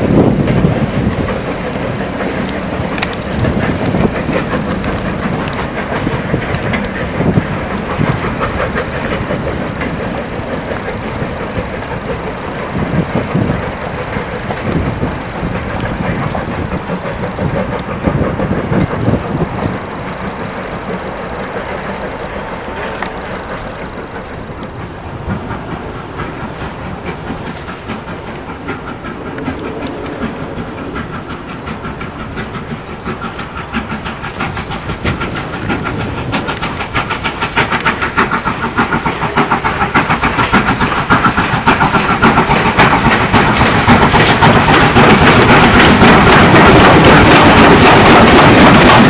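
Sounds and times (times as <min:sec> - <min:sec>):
steam locomotive chuffing: 0:00.0 - 0:49.0
wagons clattering over rail joints: 0:00.0 - 0:49.0.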